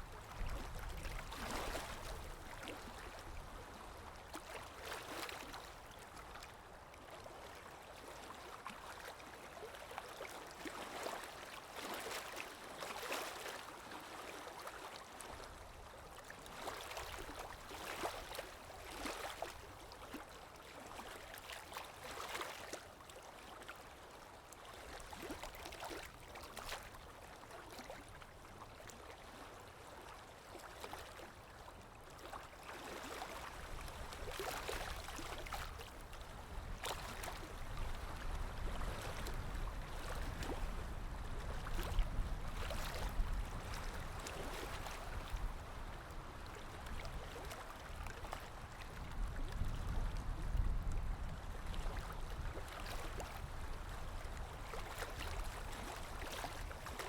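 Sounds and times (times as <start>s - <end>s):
water lapping: 0.0s - 57.0s.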